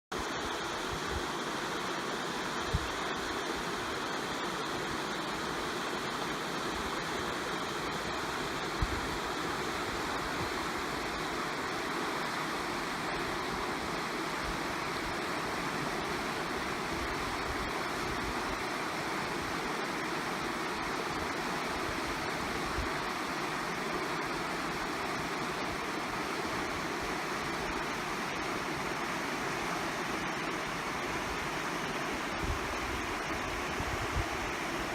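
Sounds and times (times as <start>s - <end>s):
creek water rushing: 0.1s - 34.9s.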